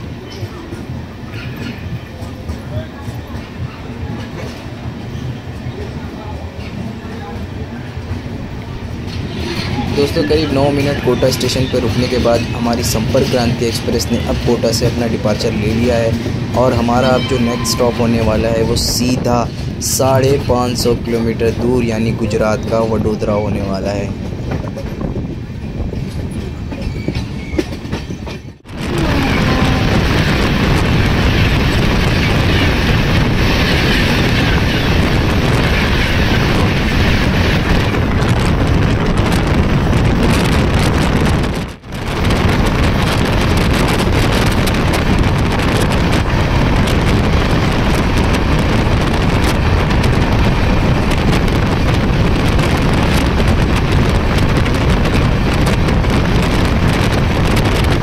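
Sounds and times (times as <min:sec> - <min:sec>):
train rushing at speed: 0:00.0 - 0:58.0.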